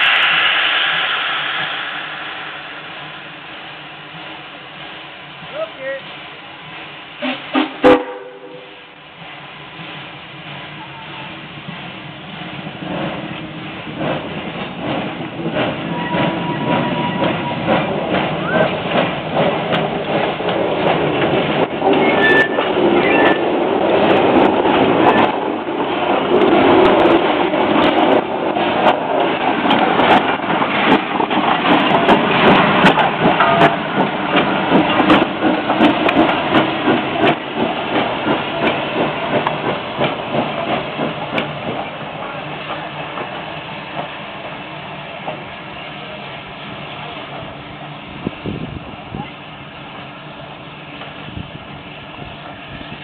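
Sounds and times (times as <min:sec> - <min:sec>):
steam hissing: 0:00.0 - 0:53.0.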